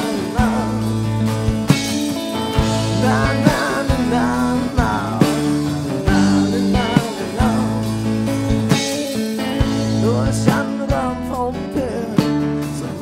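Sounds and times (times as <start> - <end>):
bending lead guitar melody: 0.0 - 13.0
rock band playing live: 0.0 - 13.0.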